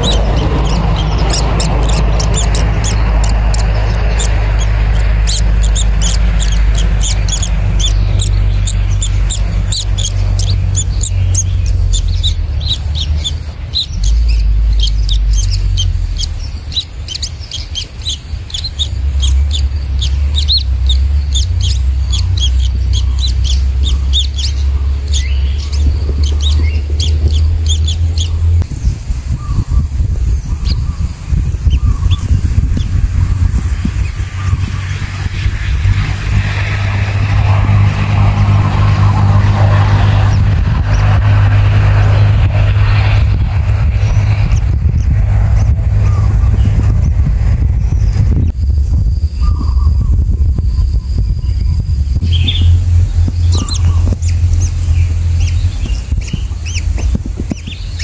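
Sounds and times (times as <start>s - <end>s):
chicks begging chirps: 0.0s - 41.2s, 49.3s - 58.0s
low steady hum: 0.0s - 58.0s.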